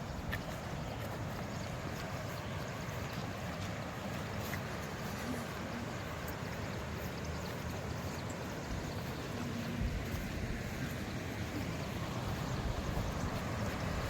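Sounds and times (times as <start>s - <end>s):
water rushing down cascade: 0.0s - 14.0s
wind rumble on microphone: 0.0s - 14.0s.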